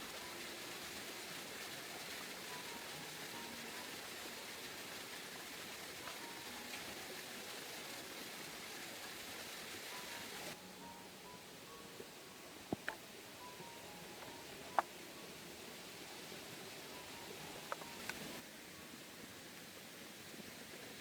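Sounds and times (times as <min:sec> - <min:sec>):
rushing water: 0:00.0 - 0:11.0, 0:12.2 - 0:21.0.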